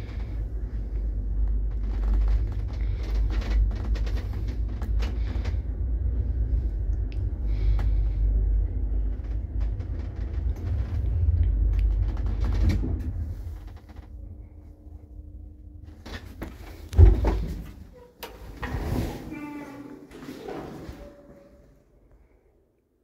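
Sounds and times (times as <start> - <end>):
lift rumbling in shaft: 0.0 - 22.4.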